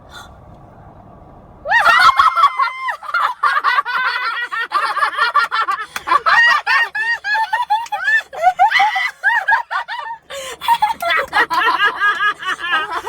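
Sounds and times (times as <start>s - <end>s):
person laughing hysterically: 1.7s - 13.0s.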